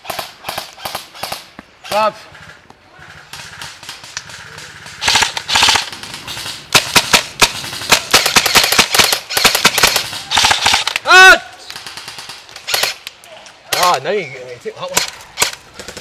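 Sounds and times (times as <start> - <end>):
airsoft guns firing full-auto: 0.0 - 1.5, 2.3 - 13.0, 14.8 - 16.0.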